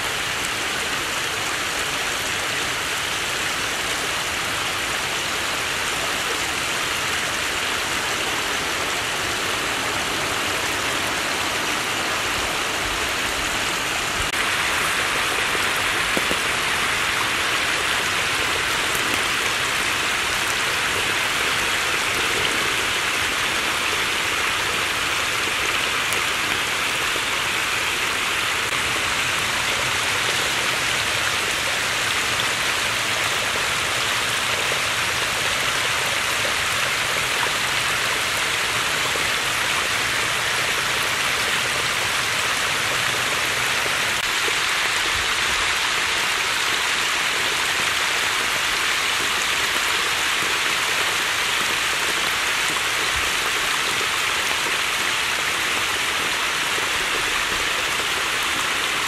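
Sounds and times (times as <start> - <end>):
waterfall splashing on rock: 10.2 - 59.0.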